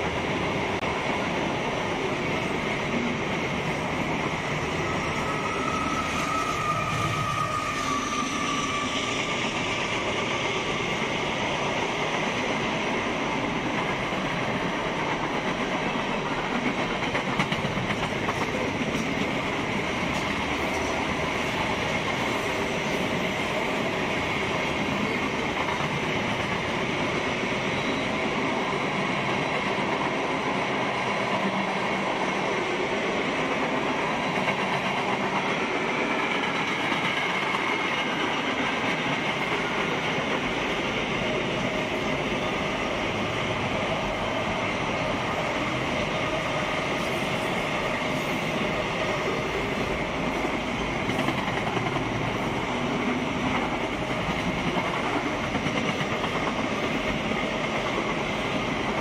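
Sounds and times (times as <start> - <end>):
freight train cars rolling past: 0.0 - 59.0.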